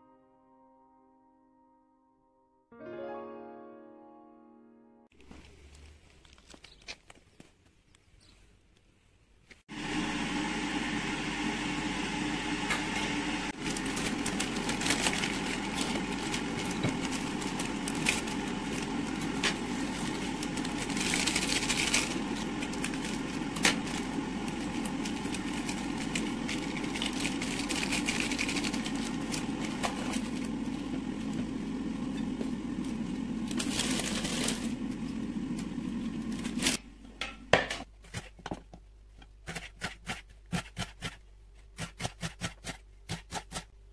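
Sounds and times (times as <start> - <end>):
kitchen fan hum: 7.8 - 43.9.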